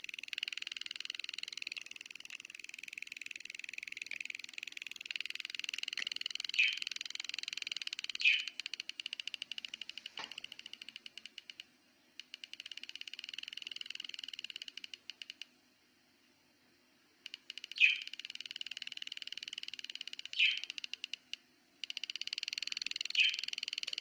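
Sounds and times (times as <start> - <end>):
power supply crackling and ticking: 0.0 - 15.5, 17.3 - 24.0
faint low hum: 0.0 - 24.0.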